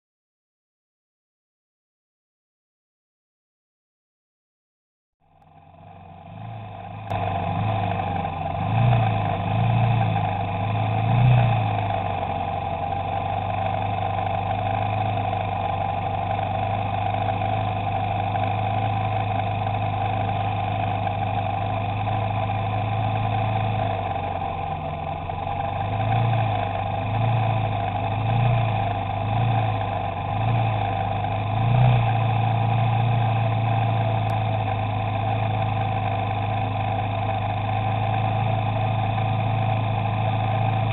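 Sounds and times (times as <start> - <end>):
motorcycle engines idling: 5.3 - 40.9.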